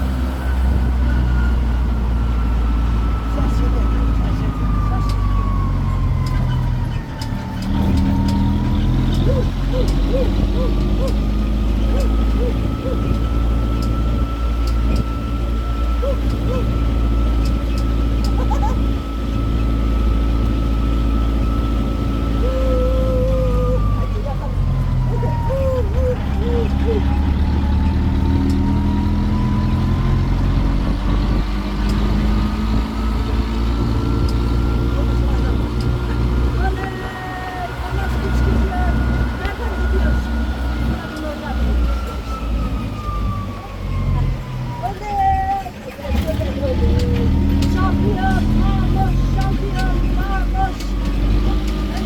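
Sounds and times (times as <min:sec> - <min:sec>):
tour train engine rumble: 0:00.0 - 0:52.0.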